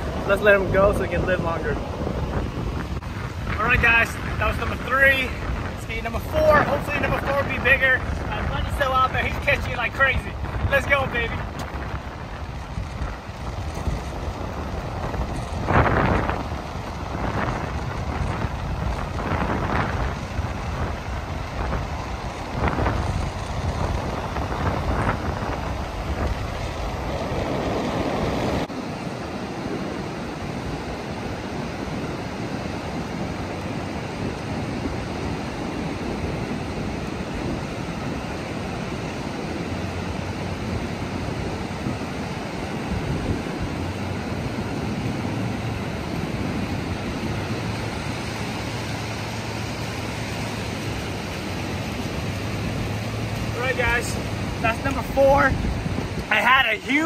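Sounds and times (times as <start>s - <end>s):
ocean surf washing up beach: 0.0s - 57.0s
wind rumbling on microphone: 0.0s - 57.0s.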